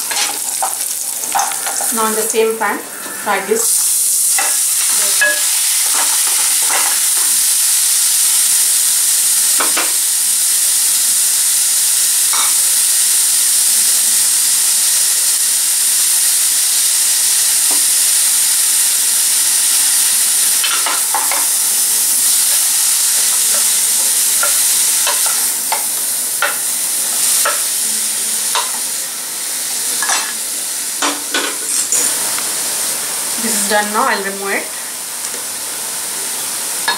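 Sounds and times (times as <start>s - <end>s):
vegetables sizzling in butter: 0.0s - 36.9s.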